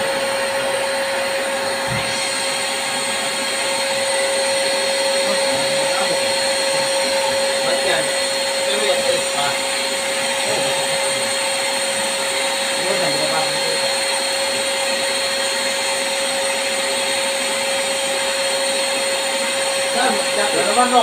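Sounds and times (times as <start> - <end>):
vacuum cleaner whining: 0.0 - 21.0.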